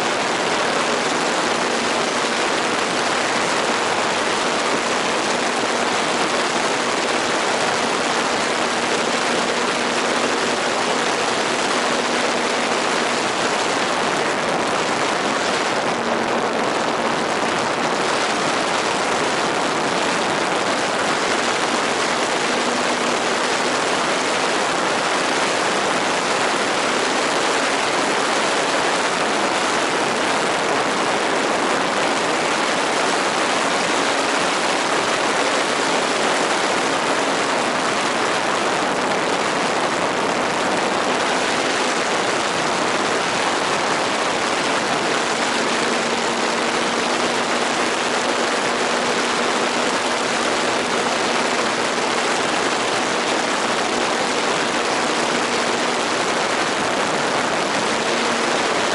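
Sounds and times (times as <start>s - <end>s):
model airplane motor hum: 0.0s - 58.9s
steady rushing noise: 0.0s - 58.9s.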